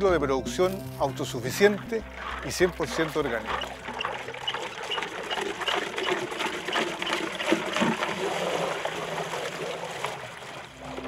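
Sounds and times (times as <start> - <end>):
water sloshing in a barrel: 0.5 - 11.0.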